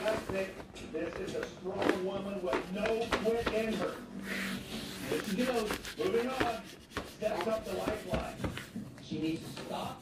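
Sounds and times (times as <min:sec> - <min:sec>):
squeegee scraping vinyl film: 0:00.0 - 0:00.5, 0:01.2 - 0:10.0.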